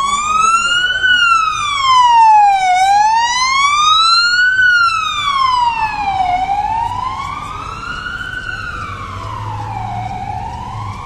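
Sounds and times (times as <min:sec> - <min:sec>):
police siren wailing: 0:00.0 - 0:11.0
vehicle noise: 0:00.0 - 0:11.0.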